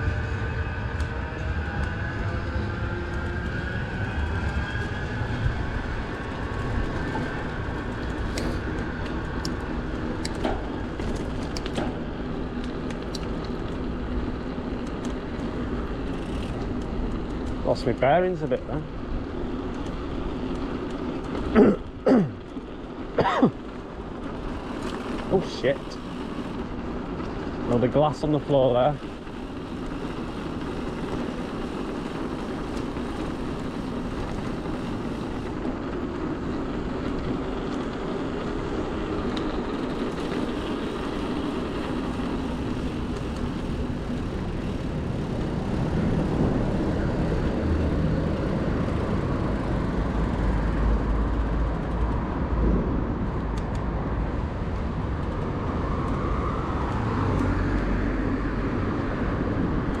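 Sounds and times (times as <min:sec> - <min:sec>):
city traffic noise: 0:00.0 - 1:00.0
wind rumble on microphone: 0:00.0 - 1:00.0.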